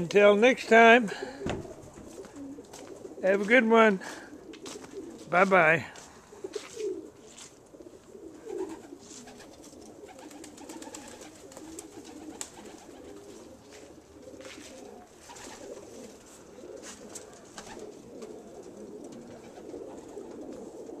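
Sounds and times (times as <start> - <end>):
pigeons cooing: 0.8 - 21.0.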